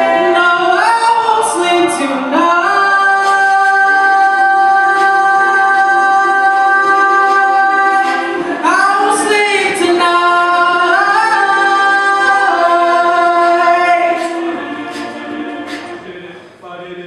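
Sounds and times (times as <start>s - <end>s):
backing voices sustaining chords: 0.0s - 17.0s
lead voice singing: 0.0s - 17.0s.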